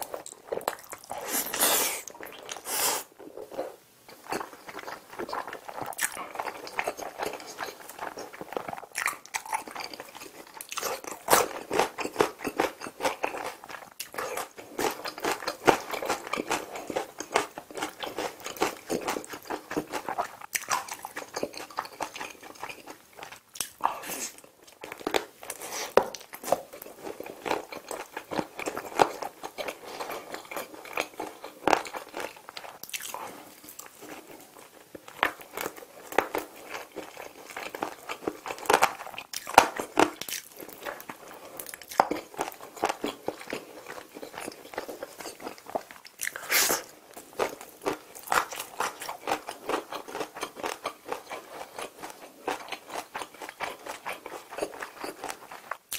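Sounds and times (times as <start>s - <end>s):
crunchy chewing: 0.0s - 55.9s.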